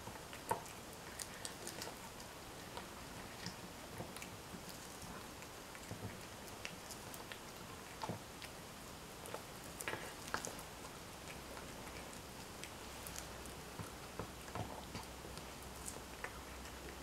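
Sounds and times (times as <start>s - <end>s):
cat chewing and licking: 0.0s - 17.0s.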